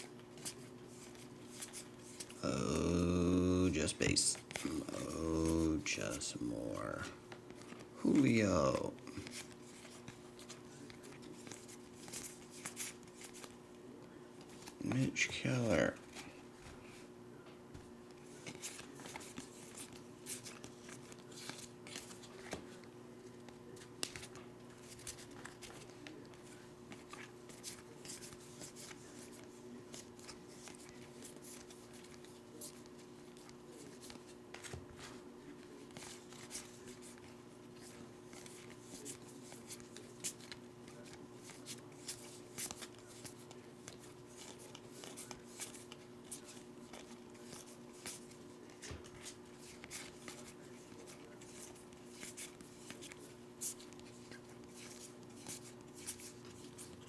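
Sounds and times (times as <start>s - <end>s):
cards clicking and rustling: 0.0s - 13.6s, 14.3s - 16.4s, 18.2s - 57.0s
steady low hum: 0.0s - 57.0s.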